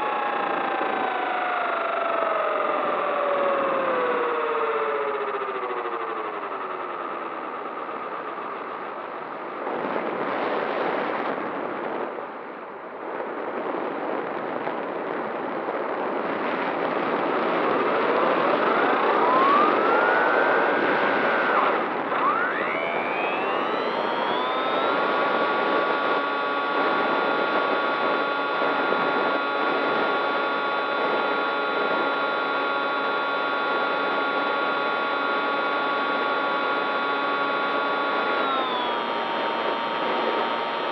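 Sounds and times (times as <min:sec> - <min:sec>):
model aircraft motor whine: 0:00.0 - 0:11.4, 0:16.5 - 0:40.9.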